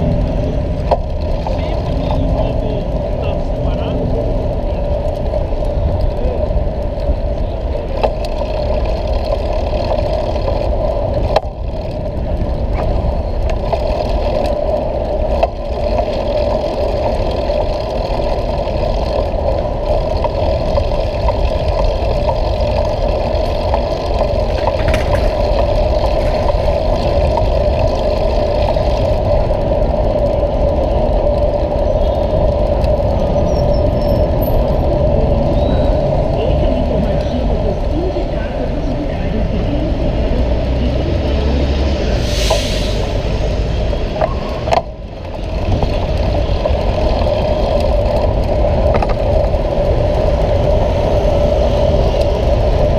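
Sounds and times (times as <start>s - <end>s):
wind and bicycle riding noise: 0.0s - 52.9s.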